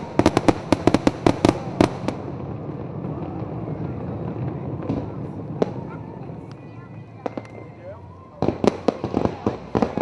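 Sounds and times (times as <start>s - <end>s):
fireworks bangs: 0.0s - 10.0s
steady background din: 0.0s - 10.0s.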